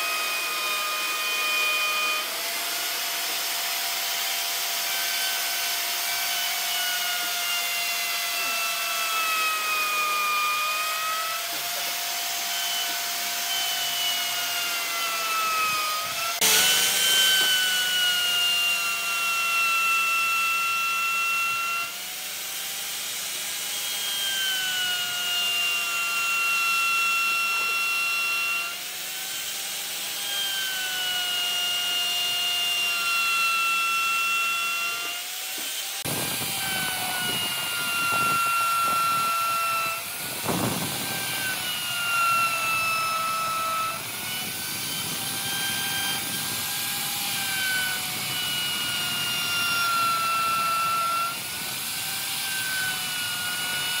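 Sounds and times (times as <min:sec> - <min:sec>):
power tool motor whining: 0:00.0 - 0:54.0.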